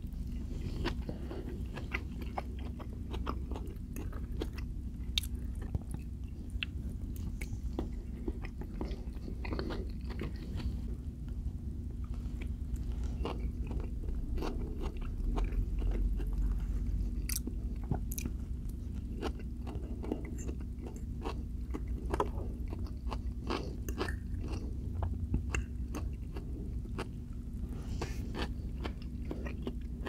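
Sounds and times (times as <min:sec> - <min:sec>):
person chewing: 0:00.0 - 0:30.0
steady low hum: 0:00.0 - 0:30.0.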